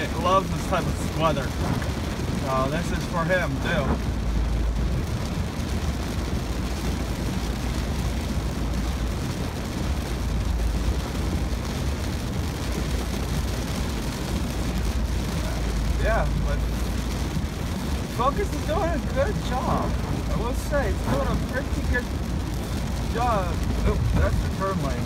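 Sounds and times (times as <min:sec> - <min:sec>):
rain and tyre spray hiss: 0:00.0 - 0:25.0
road and engine rumble: 0:00.0 - 0:25.0.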